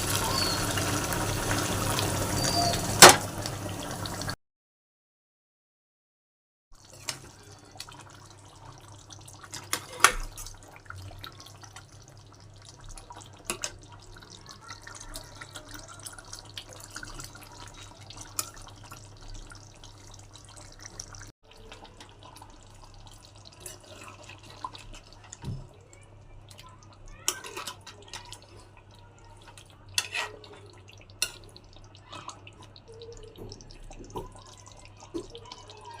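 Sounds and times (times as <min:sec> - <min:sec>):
water sounds: 0:06.8 - 0:36.0.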